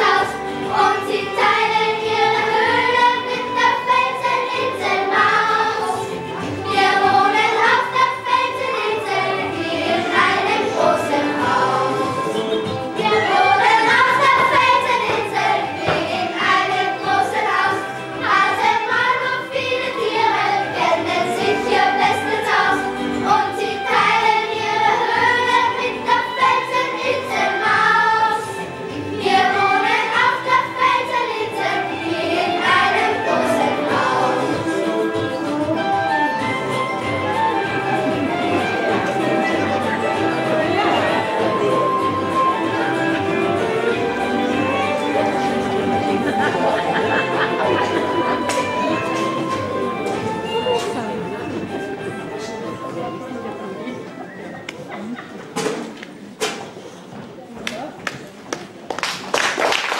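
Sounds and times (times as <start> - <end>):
children's choir singing: 0.0 - 56.0
musical accompaniment: 0.0 - 56.4.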